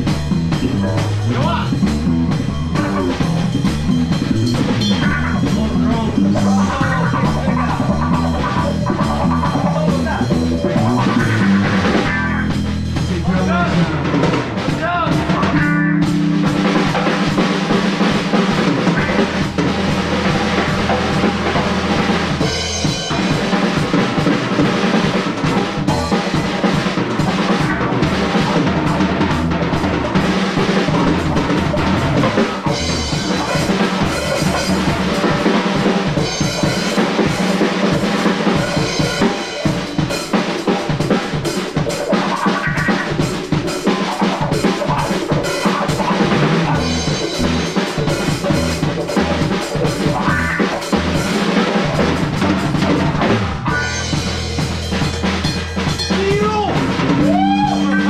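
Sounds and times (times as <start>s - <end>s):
bass guitar: 0.0s - 58.0s
drum kit kick and snare hits: 0.0s - 58.0s
electric guitar: 0.0s - 58.0s.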